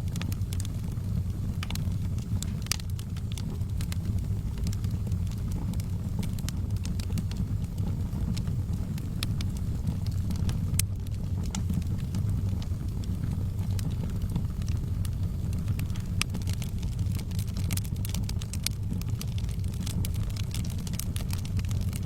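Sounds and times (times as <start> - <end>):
fire crackling and popping: 0.0 - 22.0
low rumble of flames: 0.0 - 22.0.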